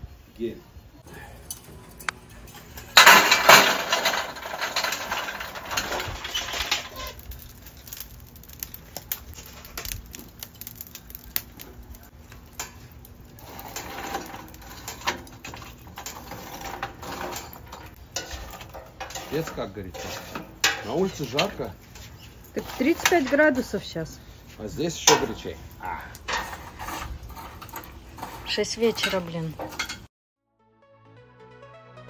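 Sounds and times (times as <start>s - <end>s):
burning coals crackling and popping: 0.0s - 30.1s
charcoal clattering into grill: 1.1s - 30.1s.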